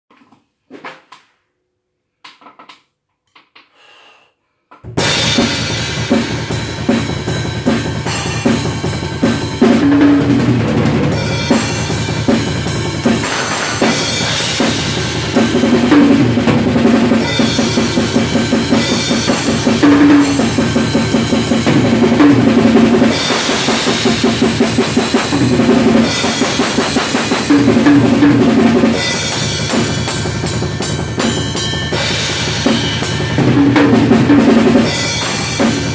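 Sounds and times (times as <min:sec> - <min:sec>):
drum kit played fast: 0:04.8 - 0:35.9.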